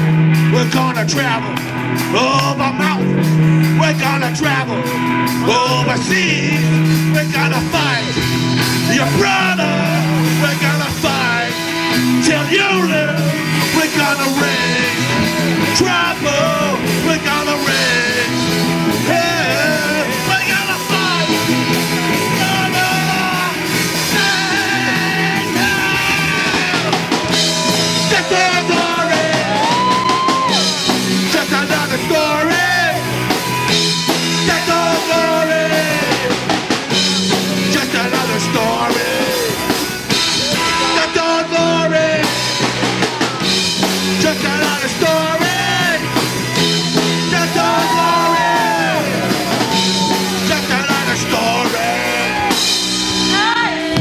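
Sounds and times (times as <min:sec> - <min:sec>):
punk rock band: 0:00.0 - 0:54.0
lead vocal singing: 0:00.5 - 0:03.1, 0:03.7 - 0:39.9, 0:40.5 - 0:43.4, 0:44.0 - 0:54.0.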